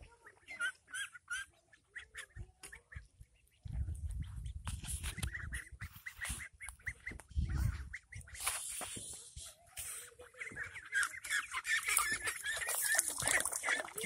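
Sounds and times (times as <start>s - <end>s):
ducks calling: 0.2s - 3.7s, 5.0s - 8.9s, 9.8s - 14.0s.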